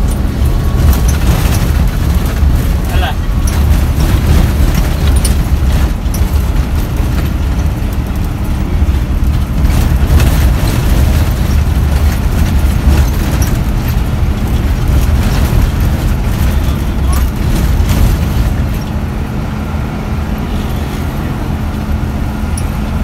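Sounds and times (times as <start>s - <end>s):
bus engine drone: 0.0s - 23.0s
road rumble: 0.0s - 23.0s.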